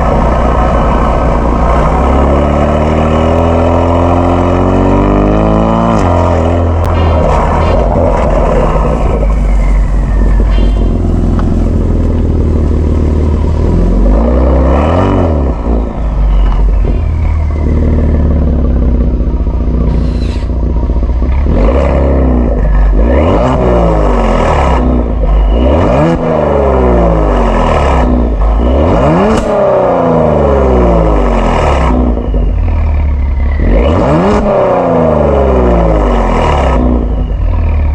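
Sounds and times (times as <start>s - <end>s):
deep car exhaust revving: 0.0s - 37.9s.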